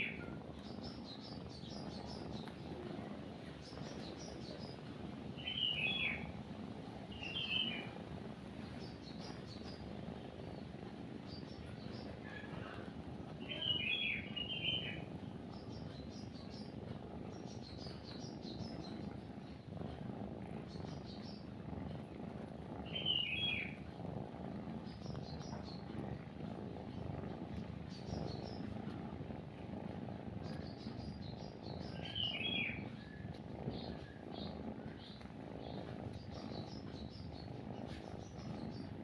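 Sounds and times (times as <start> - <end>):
kitten purring: 0.0 - 39.0
small birds chirping: 0.0 - 39.0.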